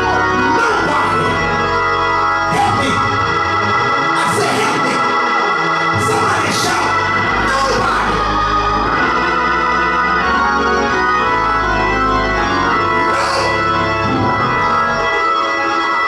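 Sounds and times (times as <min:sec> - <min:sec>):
low organ bass note: 0:00.0 - 0:15.7
organ chords: 0:00.0 - 0:16.0.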